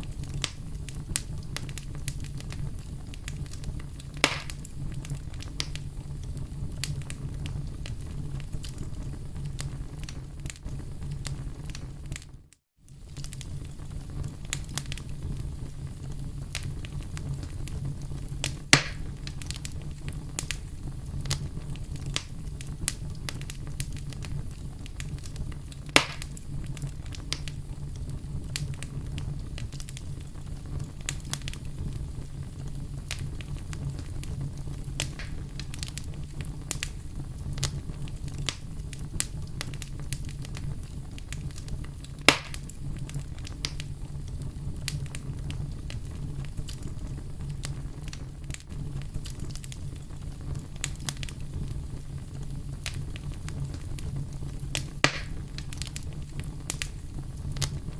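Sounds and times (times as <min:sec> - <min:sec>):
campfire crackling: 0:00.0 - 0:57.9
loud fire pops: 0:00.0 - 0:57.9
low flame rumble: 0:00.0 - 0:57.9.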